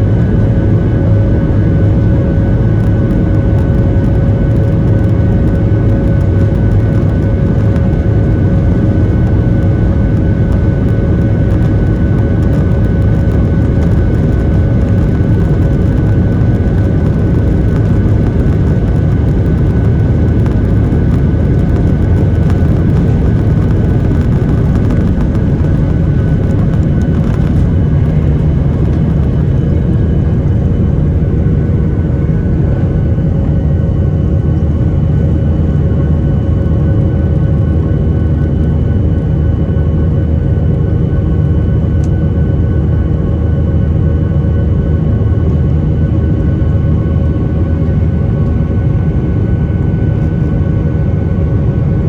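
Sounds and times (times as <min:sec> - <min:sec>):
steady whining tones: 0:00.0 - 0:51.3
airplane engines low rumble: 0:00.0 - 0:52.0.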